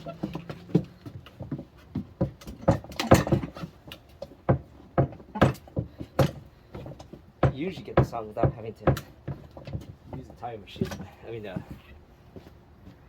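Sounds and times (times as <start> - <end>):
tire knocking on steel rim: 0.0 - 11.7.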